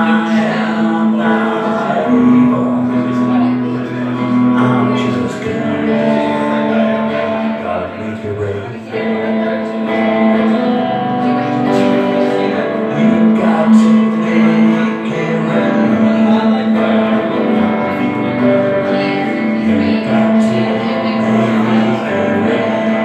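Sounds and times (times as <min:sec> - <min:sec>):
plucked string instrument: 0:00.0 - 0:23.0.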